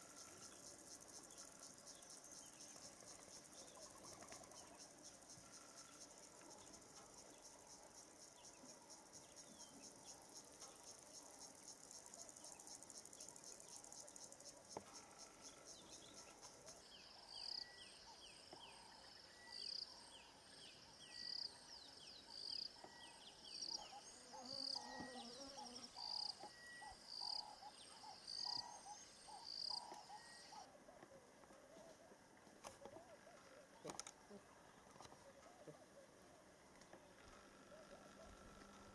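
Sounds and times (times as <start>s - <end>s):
insects trilling: 0.0s - 30.7s, 33.0s - 38.9s.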